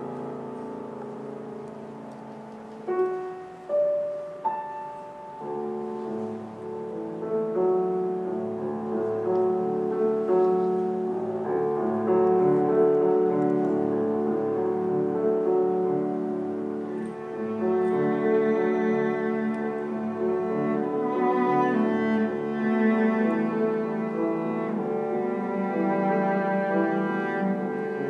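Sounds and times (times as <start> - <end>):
cello: 0.0 - 28.0
grand piano playing: 0.0 - 28.0.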